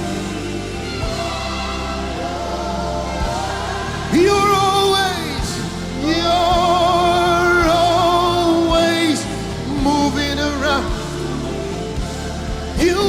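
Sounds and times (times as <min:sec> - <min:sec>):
lead melody with vibrato: 0:00.0 - 0:13.0
sustained keyboard chords: 0:00.0 - 0:13.0.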